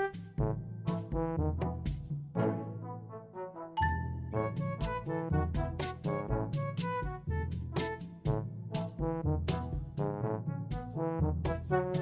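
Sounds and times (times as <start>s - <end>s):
brass music over steady beat: 0.0s - 12.0s.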